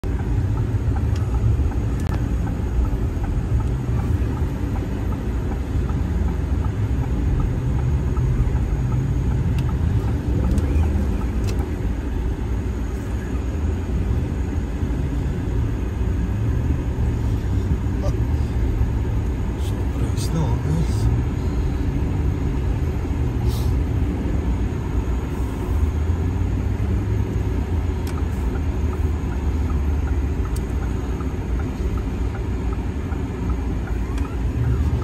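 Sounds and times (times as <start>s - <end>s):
vehicle rumble on snowy road: 0.0s - 35.0s.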